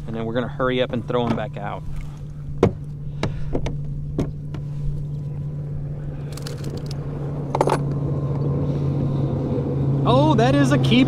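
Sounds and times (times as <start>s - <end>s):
trolling motor hum: 0.0s - 11.0s.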